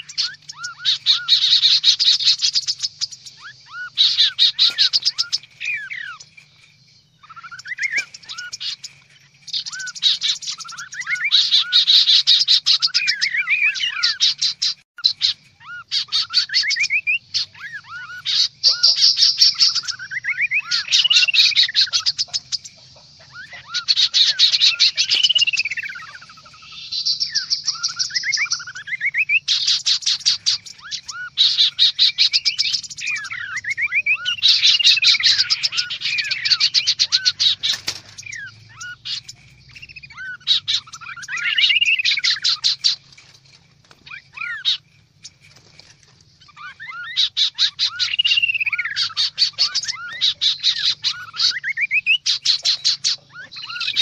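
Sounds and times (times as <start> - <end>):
birds calling with rattling trills: 0.0 - 54.0
whistled bird notes: 0.0 - 54.0.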